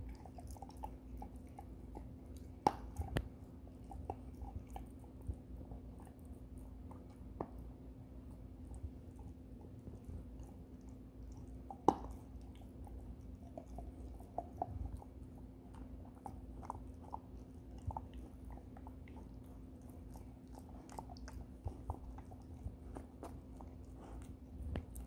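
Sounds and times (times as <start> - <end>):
puppy chewing with crunches: 0.0 - 25.0.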